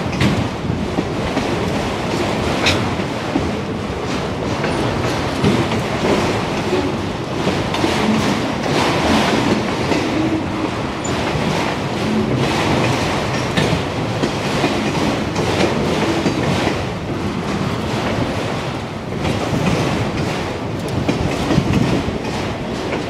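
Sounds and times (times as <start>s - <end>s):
steel wheels clattering over rail joints: 0.0s - 23.0s.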